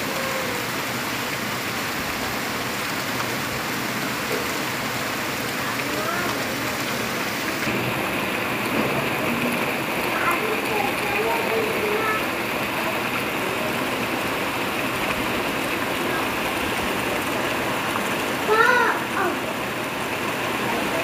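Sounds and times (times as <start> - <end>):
heavy rain on leaves: 0.0 - 21.0.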